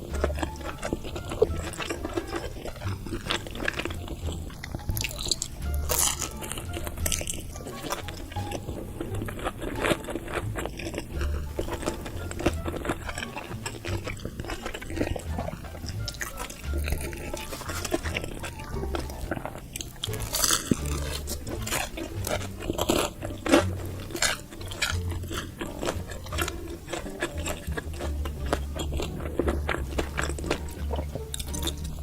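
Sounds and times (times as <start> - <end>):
chewing and crunching food: 0.0 - 32.0
deep low jaw thuds: 0.0 - 32.0
wet mouth sounds: 0.0 - 32.0.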